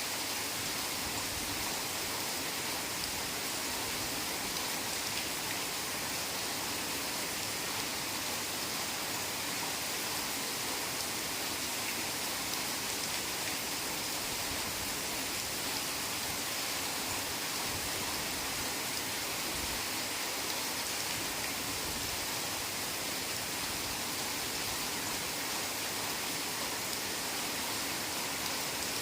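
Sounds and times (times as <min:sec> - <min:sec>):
heavy rain falling: 0:00.1 - 0:29.0.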